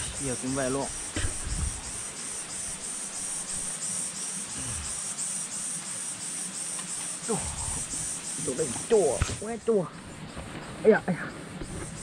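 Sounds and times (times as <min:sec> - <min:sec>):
insects chirping in buzzy pulses: 0:00.0 - 0:12.0.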